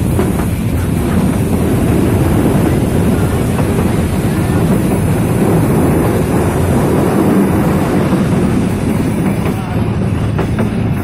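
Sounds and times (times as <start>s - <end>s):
train wheels rumbling: 0.0s - 11.0s
wind on microphone: 0.0s - 11.0s.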